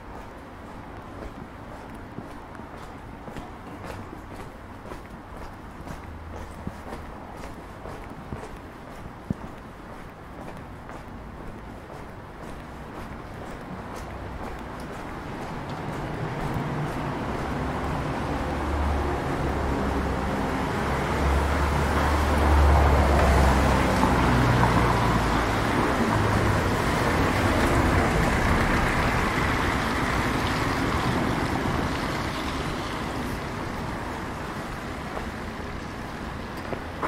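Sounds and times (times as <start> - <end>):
road noise: 0.0 - 37.0
vehicle engine rumble: 0.0 - 37.0.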